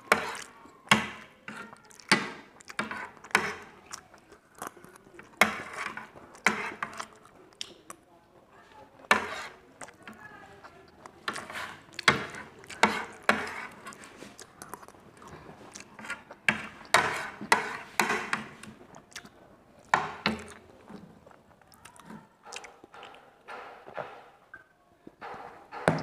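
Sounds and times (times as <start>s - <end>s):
close-up chewing: 0.0s - 23.4s.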